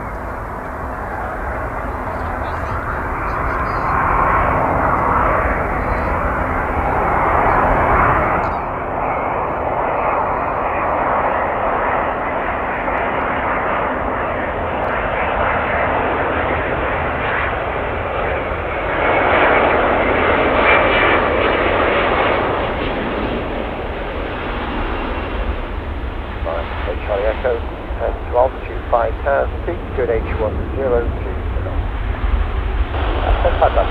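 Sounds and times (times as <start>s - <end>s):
jet airliner rushing overhead: 0.0s - 33.9s.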